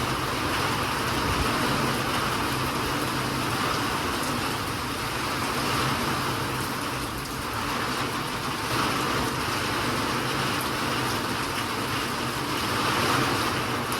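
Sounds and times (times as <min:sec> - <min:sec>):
steady rain hiss: 0:00.0 - 0:13.9.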